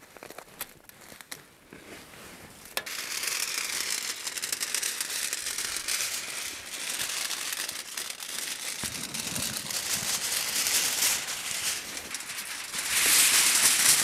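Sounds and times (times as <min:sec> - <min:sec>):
plastic film crinkling: 0:02.6 - 0:14.0.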